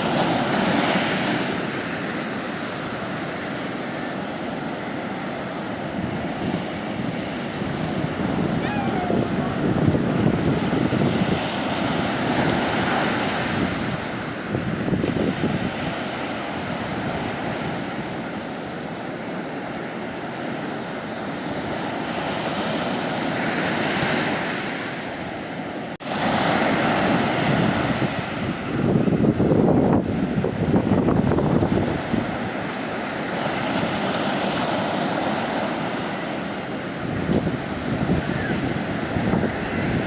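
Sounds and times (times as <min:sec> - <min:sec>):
sea waves breaking on beach: 0:00.0 - 0:40.0.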